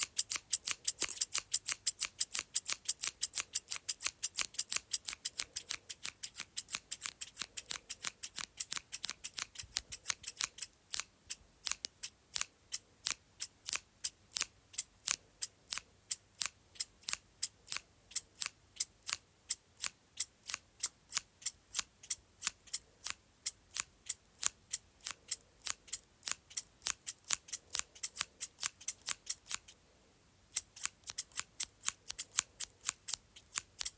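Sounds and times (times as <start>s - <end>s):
scissors snipping: 0.0s - 15.8s, 19.8s - 29.7s, 30.5s - 33.9s.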